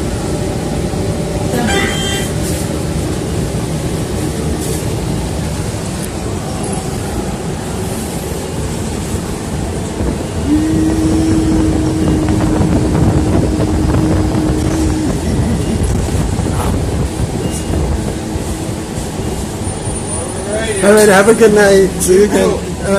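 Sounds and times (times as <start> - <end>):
bus rumbling: 0.0 - 22.9.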